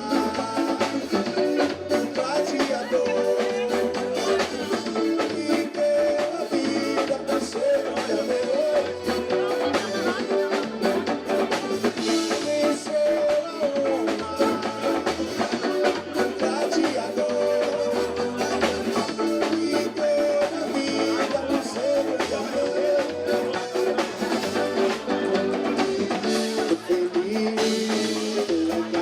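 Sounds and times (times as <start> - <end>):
band playing upbeat music: 0.0 - 29.0
drums and percussion beat: 0.0 - 29.0
person singing a melody: 0.0 - 29.0.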